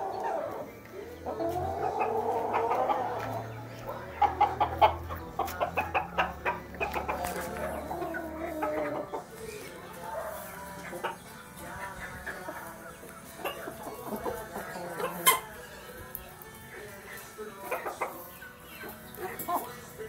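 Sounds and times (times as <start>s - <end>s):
chickens clucking and calling: 0.0s - 20.0s.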